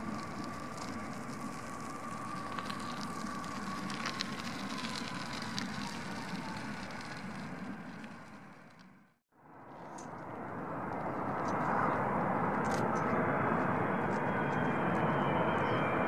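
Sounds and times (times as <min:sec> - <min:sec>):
crackles: 0:00.0 - 0:15.1
distant jet engine rumble: 0:00.0 - 0:16.0.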